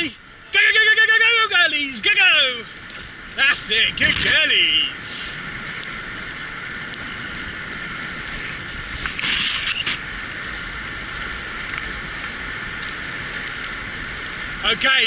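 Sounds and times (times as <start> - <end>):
wheeled rig rattling rumble: 0.0 - 15.0.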